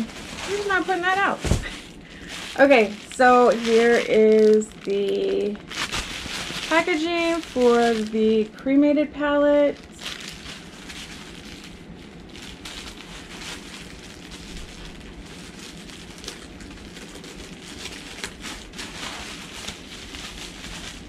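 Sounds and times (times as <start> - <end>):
bubble wrap rustling and crinkling: 0.0 - 8.6, 9.5 - 21.0.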